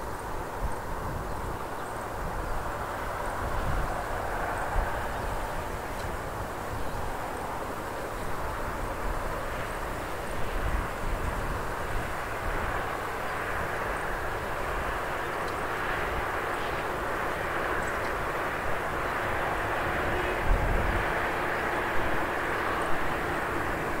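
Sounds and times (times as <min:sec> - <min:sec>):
distant train rumbling: 0:00.0 - 0:24.0
wind buffeting microphone: 0:00.1 - 0:24.0.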